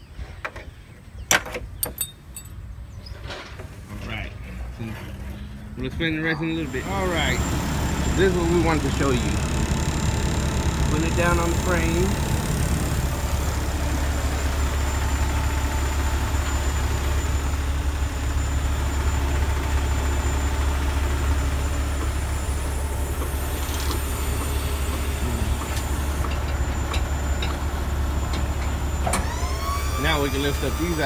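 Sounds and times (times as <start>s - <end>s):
truck engine idling: 4.6s - 31.0s.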